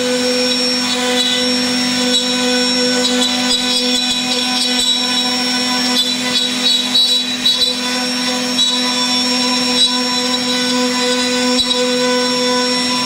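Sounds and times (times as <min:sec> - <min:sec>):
cutter rasping in wood: 0:00.0 - 0:13.0
router spindle whine: 0:00.0 - 0:13.0.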